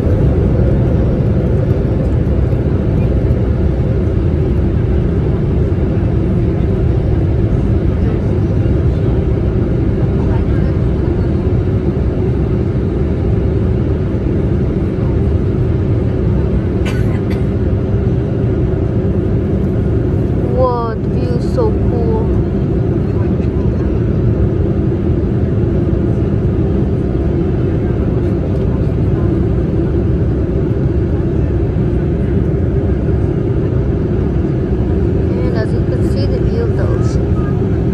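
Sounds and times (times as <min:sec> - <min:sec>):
jet engine rumble in cabin: 0:00.0 - 0:37.9.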